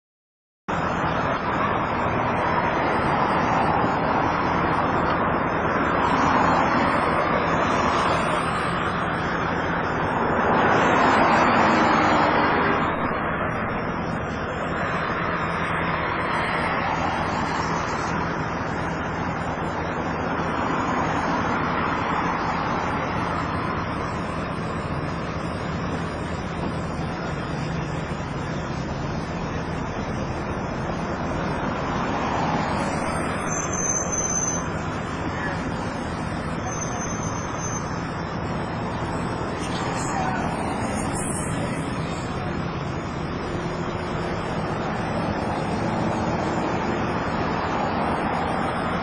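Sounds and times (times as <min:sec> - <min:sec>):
motor vehicle engine and wind: 0:00.7 - 0:49.0.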